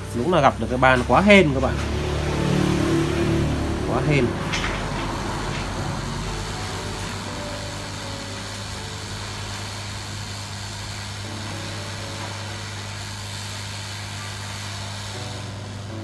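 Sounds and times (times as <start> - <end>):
even hiss: 0.0 - 16.0.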